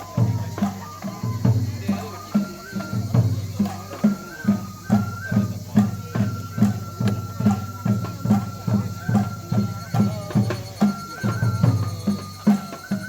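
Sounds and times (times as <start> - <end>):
drum struck at steady beat: 0.0 - 13.0.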